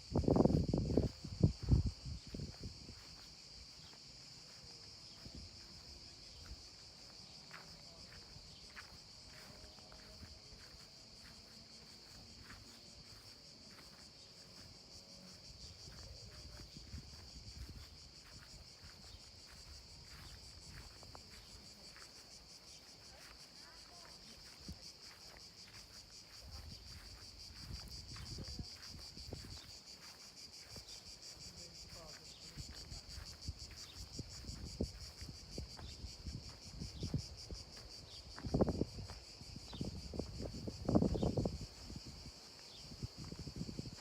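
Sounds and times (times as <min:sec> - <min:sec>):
high-pitched insect chorus: 0:00.0 - 0:44.0.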